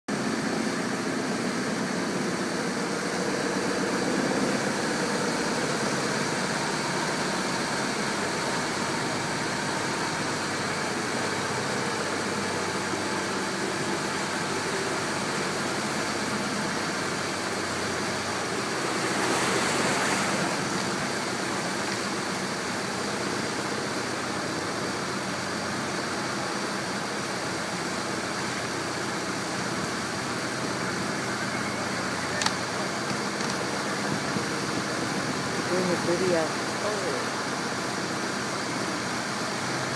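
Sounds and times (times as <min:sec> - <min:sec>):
motorboat engine running: 0:00.1 - 0:39.9
rushing wake water: 0:00.1 - 0:39.9.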